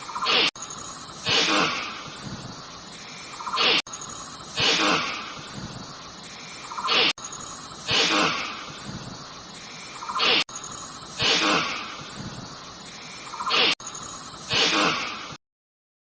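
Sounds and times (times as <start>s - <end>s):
snake hissing: 0.0s - 15.4s.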